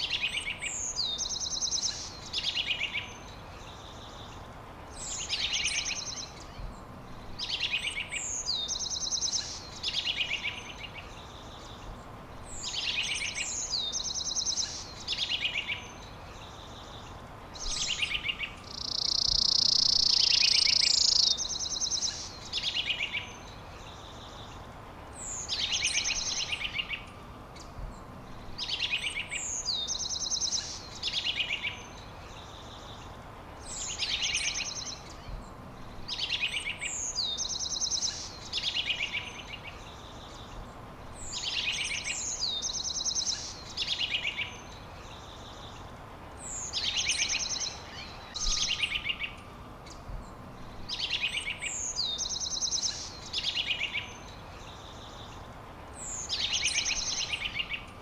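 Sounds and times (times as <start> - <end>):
background hiss: 0.0 - 58.0
songbirds trilling: 0.0 - 58.0.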